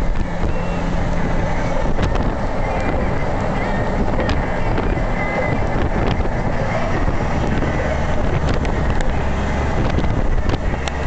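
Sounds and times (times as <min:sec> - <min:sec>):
moving car rumble: 0:00.0 - 0:11.0
road and wind noise: 0:00.0 - 0:11.0.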